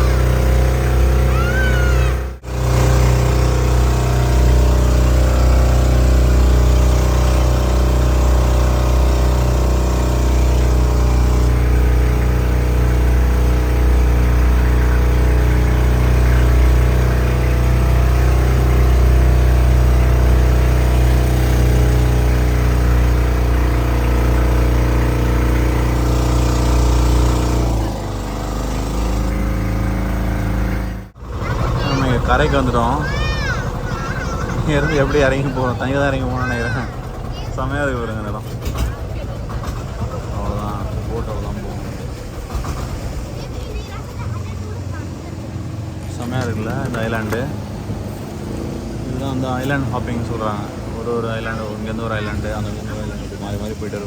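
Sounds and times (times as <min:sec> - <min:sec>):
motorboat engine humming: 0:00.0 - 0:54.0.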